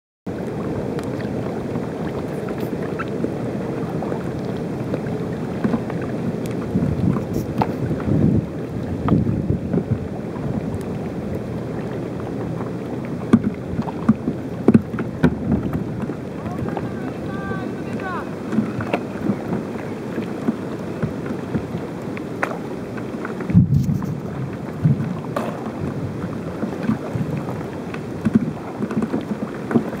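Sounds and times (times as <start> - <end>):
paddle splashing and dripping: 0.3 - 30.0
wind rumble on microphone: 0.3 - 30.0.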